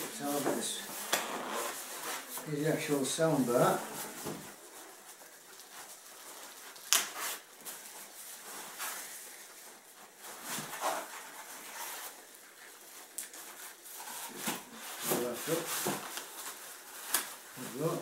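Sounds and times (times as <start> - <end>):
packaging rubbing and scraping: 0.1 - 18.0.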